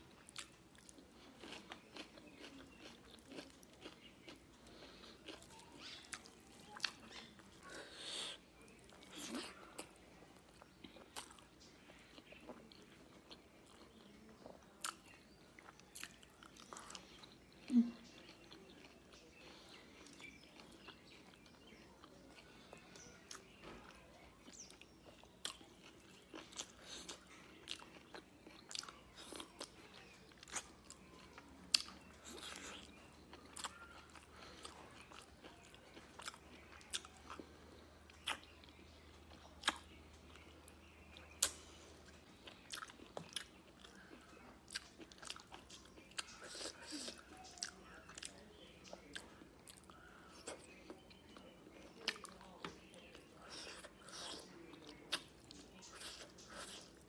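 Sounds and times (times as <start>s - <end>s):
close chewing and biting: 0.1s - 57.0s.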